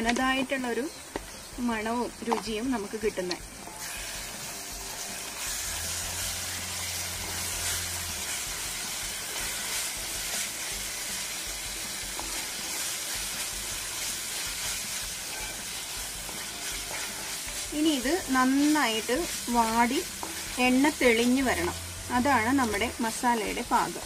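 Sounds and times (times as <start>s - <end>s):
paste and onions sizzling in oil: 0.0s - 24.0s
spatula stirring in a pan: 3.7s - 24.0s.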